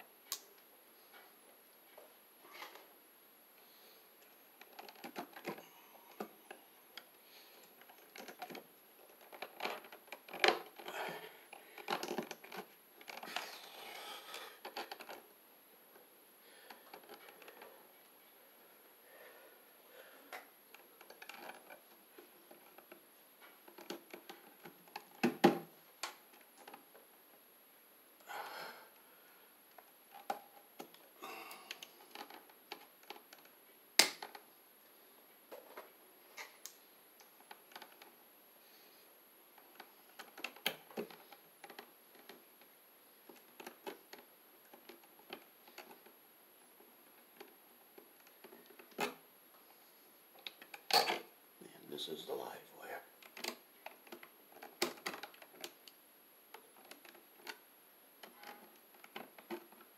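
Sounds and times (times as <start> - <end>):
faint clicks and rustles: 0.2 - 27.5, 28.1 - 59.9.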